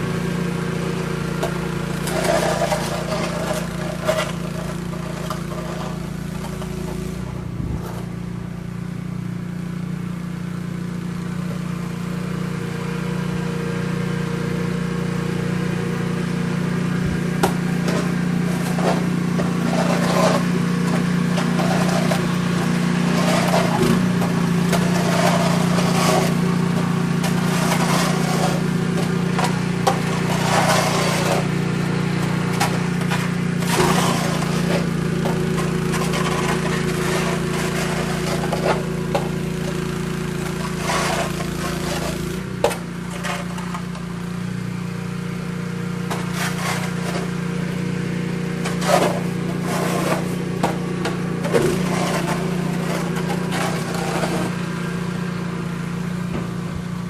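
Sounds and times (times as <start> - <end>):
scraping and crackling: 0.0 - 8.5, 14.4 - 57.0
small engine running: 0.0 - 57.0.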